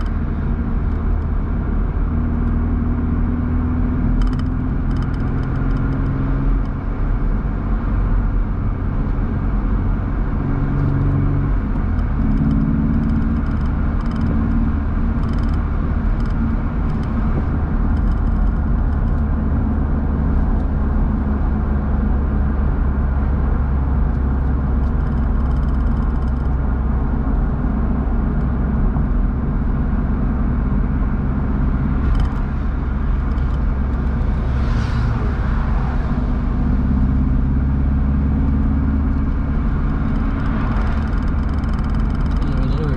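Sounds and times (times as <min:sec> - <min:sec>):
car engine running: 0:00.0 - 0:42.9
wind and road noise: 0:00.0 - 0:42.9.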